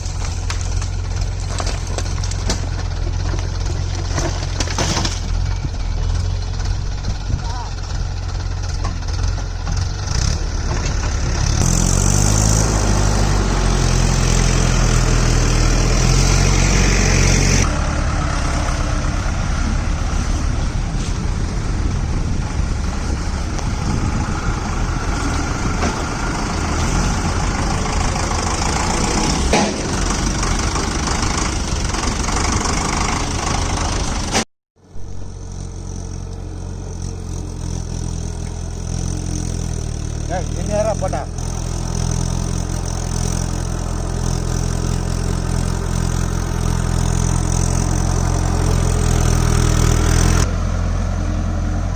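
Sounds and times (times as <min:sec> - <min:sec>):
tractor diesel engine: 0:00.0 - 0:51.9.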